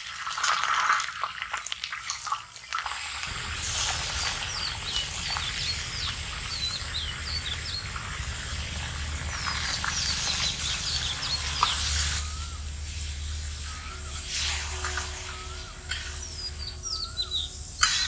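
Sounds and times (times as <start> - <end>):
meat sizzling in hot oil: 0.0 - 16.6
birds chirping: 3.3 - 18.0.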